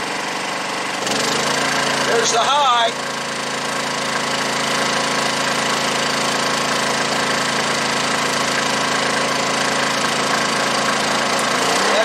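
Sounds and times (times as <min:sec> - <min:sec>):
generator engine running: 0:00.0 - 0:12.0.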